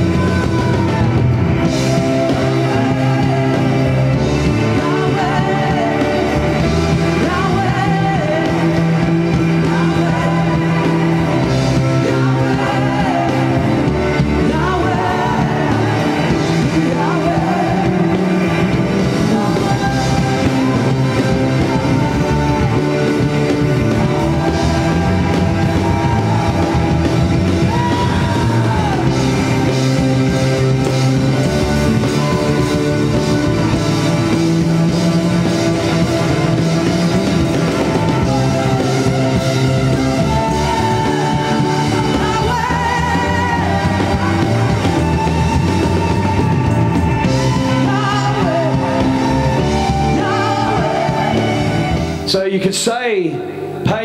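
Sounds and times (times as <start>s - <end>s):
person singing: 0.0s - 52.3s
rock band playing: 0.0s - 54.0s.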